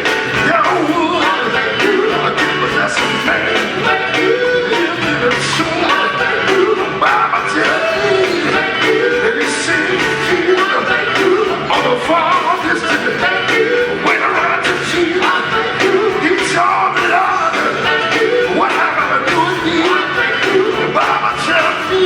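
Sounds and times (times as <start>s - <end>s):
gospel group singing with band: 0.0s - 22.0s
steady drum beat: 0.0s - 22.0s.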